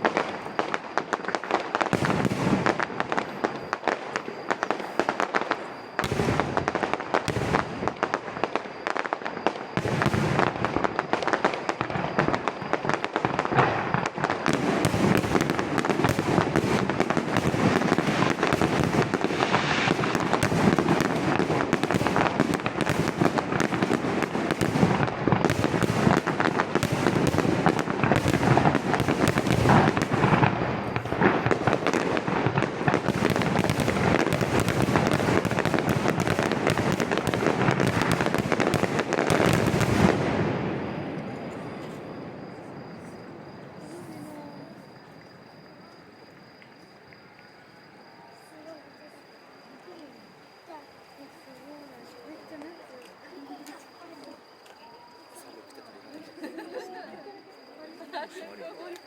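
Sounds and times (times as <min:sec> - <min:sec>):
fireworks bursting and crackling: 0:00.0 - 0:47.3, 0:47.9 - 0:59.0.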